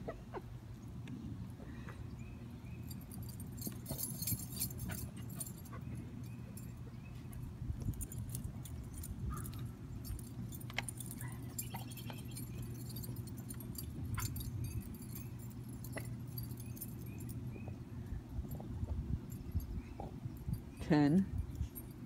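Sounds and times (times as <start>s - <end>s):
steady low rumble: 0.7s - 22.0s
dog collar tags jingling: 2.8s - 22.0s.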